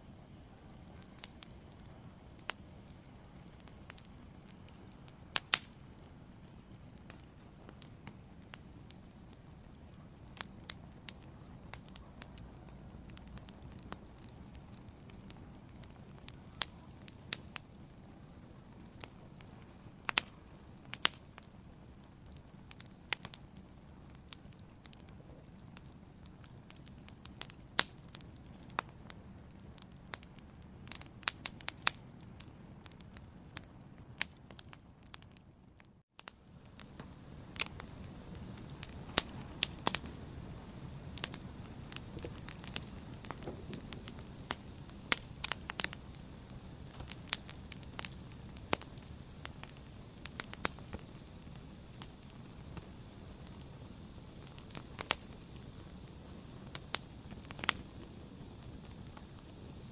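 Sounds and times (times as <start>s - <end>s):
fire crackling in fireplace: 0.0s - 59.9s.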